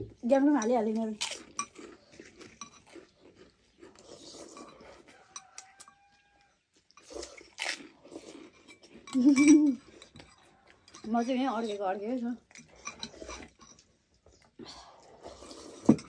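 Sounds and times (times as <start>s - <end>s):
chewing: 0.6s - 16.0s
slurping noodle soup: 1.4s - 10.9s, 12.6s - 16.0s.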